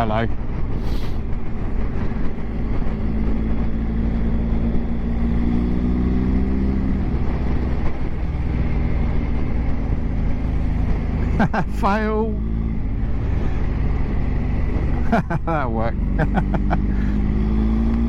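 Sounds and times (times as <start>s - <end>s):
motorcycle engine accelerating: 0.0s - 18.0s
wind rumble: 0.0s - 18.0s.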